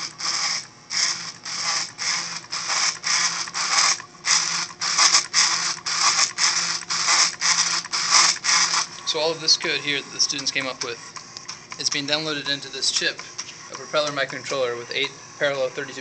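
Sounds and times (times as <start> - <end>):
pen plotter whirring: 0.0 - 16.0.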